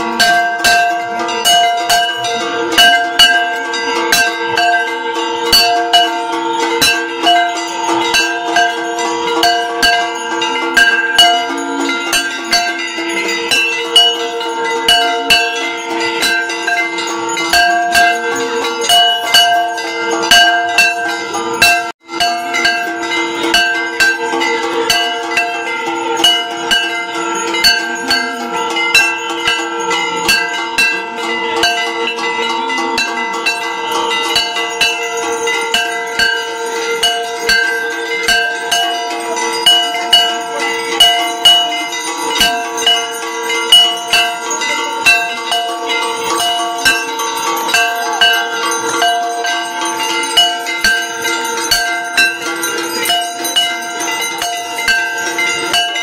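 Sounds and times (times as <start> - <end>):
bells ringing rapidly: 0.0 - 56.0.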